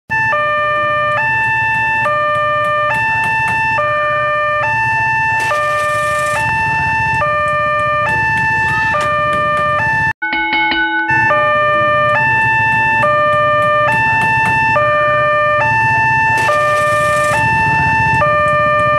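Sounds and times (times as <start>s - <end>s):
level crossing two-tone alarm: 0.1s - 18.9s.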